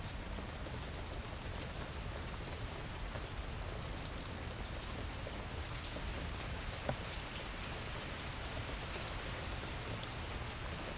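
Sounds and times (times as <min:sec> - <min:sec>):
rain falling on leaves: 0:00.0 - 0:10.9
raindrops ticking: 0:00.0 - 0:10.9.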